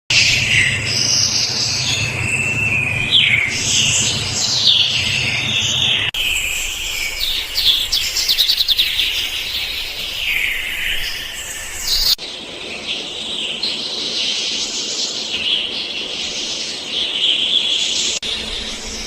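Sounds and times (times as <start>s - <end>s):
small birds singing and chirping: 0.1s - 19.0s.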